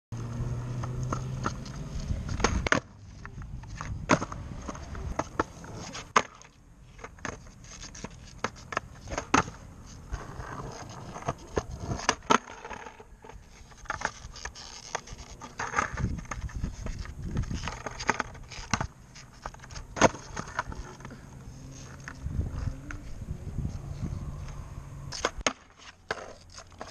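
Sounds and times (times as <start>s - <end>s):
skateboard wheels rolling on asphalt: 0.2s - 26.9s
skateboard clacking on pavement: 0.8s - 21.3s, 25.1s - 26.9s.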